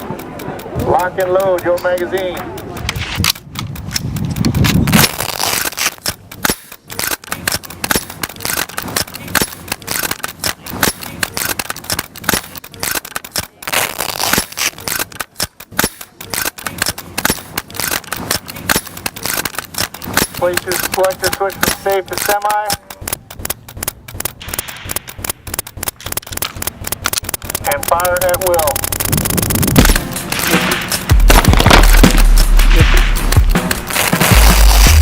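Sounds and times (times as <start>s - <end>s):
rifles firing: 4.6s - 35.0s.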